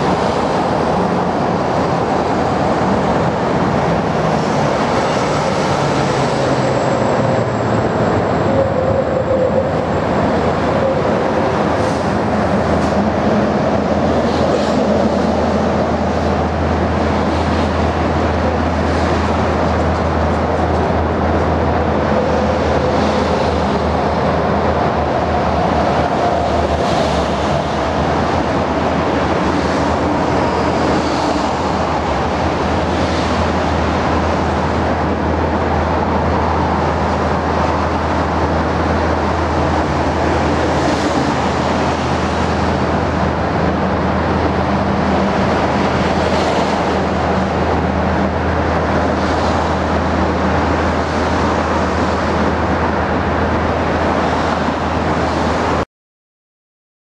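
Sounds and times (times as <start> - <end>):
road traffic noise: 0.0 - 55.8
vehicles passing: 0.0 - 55.8.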